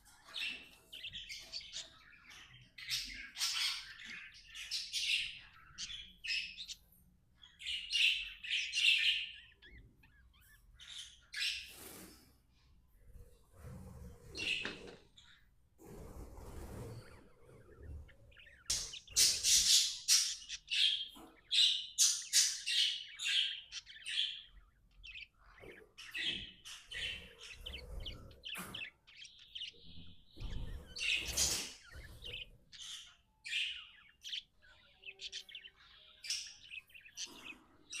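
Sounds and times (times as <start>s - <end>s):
budgies chirping and warbling: 0.0s - 38.0s.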